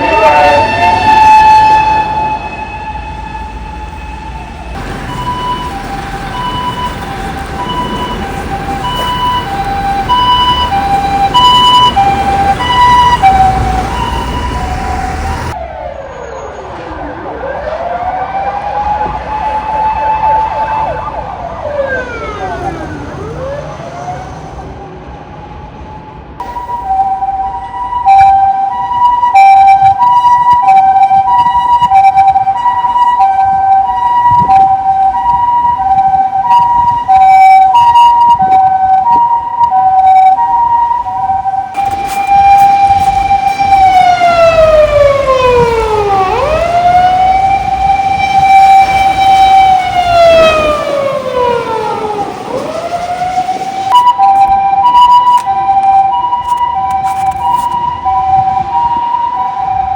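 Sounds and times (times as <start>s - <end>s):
ambulance siren: 0.0s - 59.9s.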